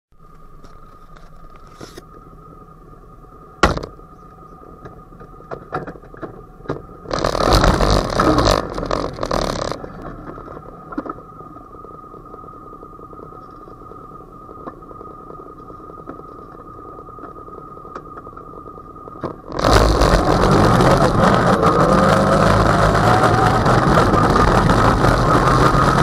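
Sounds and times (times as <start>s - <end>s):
faint steady whine: 0.1s - 26.0s.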